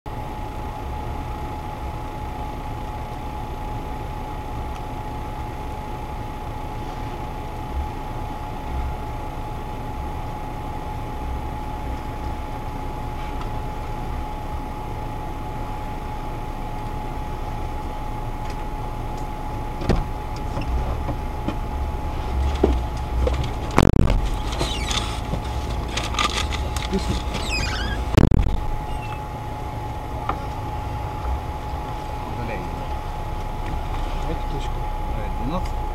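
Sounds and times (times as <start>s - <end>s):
engine idling: 0.1s - 35.9s
high whine: 0.1s - 35.9s.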